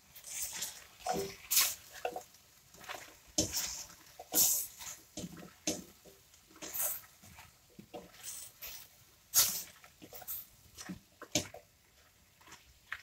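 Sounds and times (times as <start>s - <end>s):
spatula scraping vegetables in pan: 0.0s - 11.6s.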